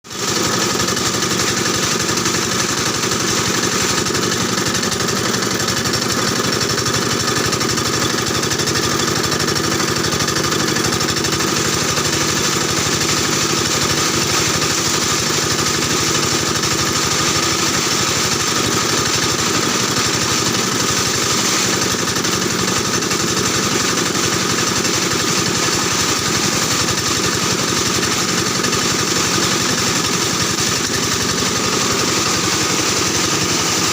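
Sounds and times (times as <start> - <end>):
washing machine humming and rattling: 0.1 - 33.9.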